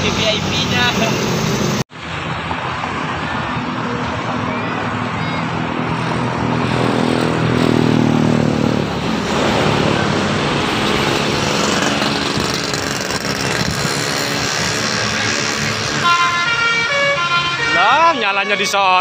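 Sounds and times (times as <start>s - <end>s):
heavy vehicle passing: 0.0s - 19.0s
traffic and tyre noise: 0.0s - 19.0s.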